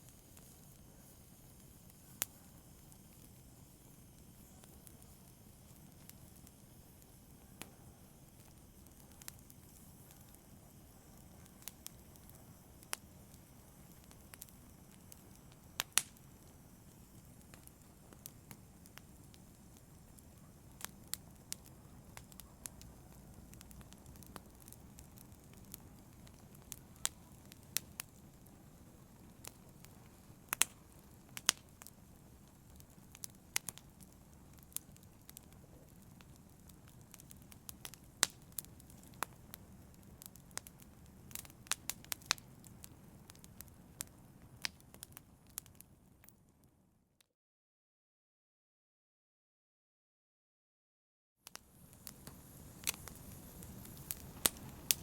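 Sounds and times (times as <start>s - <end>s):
wood fire crackling and popping: 0.0s - 46.6s, 51.5s - 55.0s.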